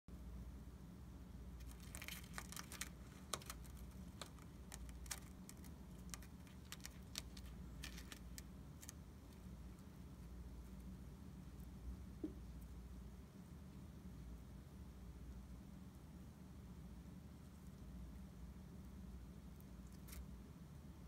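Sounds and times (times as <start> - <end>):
low steady hum: 0.1 - 21.0
gecko chewing cricket: 1.5 - 20.8.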